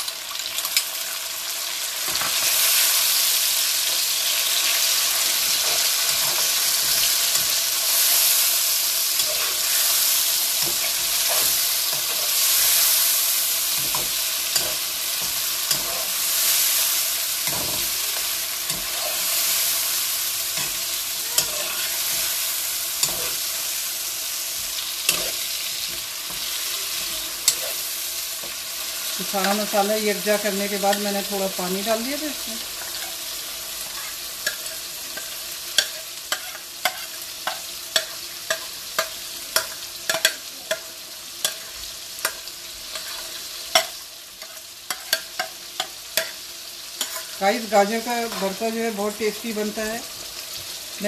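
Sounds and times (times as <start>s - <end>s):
vegetables sizzling in hot oil: 0.0s - 51.0s.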